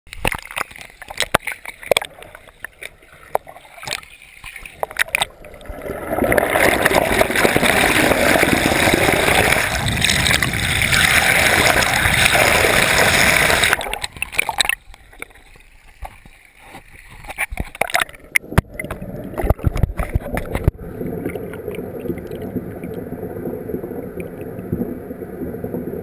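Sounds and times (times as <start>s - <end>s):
knocks and splashes: 0.1s - 5.4s, 6.1s - 22.4s
muffled water churning underwater: 0.1s - 26.0s.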